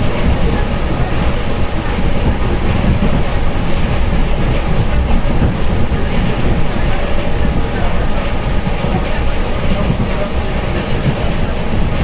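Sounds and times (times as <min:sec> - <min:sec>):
train carriage rumble: 0:00.0 - 0:12.0
train wheels clattering on rails: 0:00.0 - 0:12.0.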